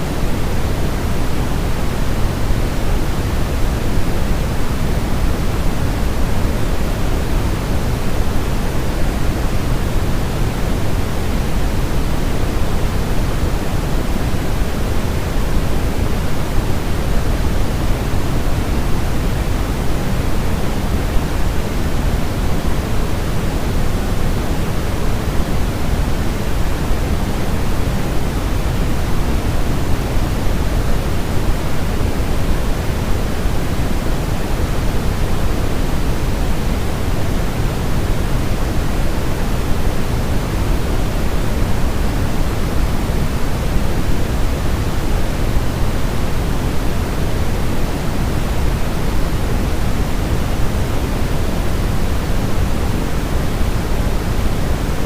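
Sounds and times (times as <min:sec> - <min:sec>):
deep soft white noise hiss: 0:00.0 - 0:55.0.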